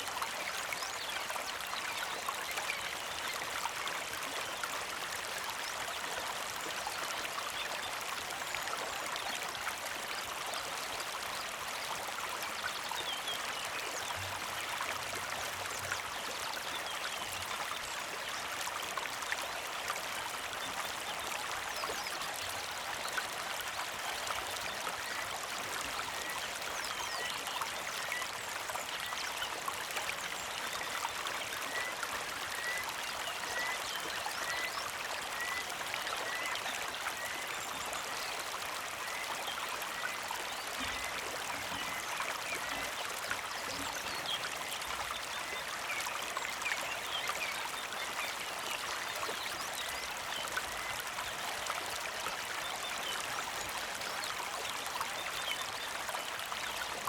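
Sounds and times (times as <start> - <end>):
creek flowing and trickling: 0.0 - 57.0.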